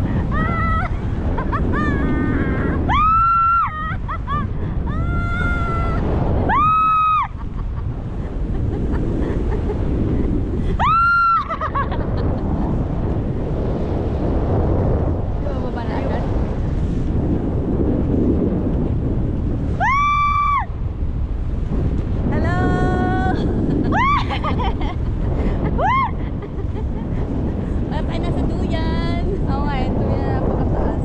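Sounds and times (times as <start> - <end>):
wind rushing: 0.0 - 31.0.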